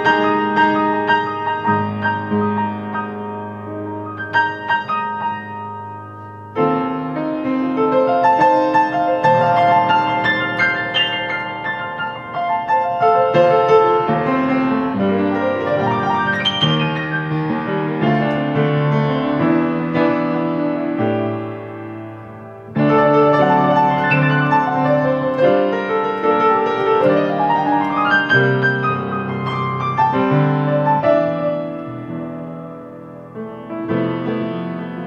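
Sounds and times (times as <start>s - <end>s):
grand piano improvisation: 0.0s - 35.0s.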